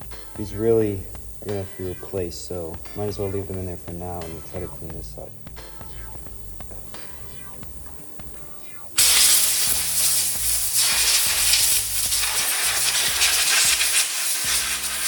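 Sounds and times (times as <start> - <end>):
loud steady hiss: 0.0 - 8.4, 9.0 - 15.0
background music: 0.0 - 15.0.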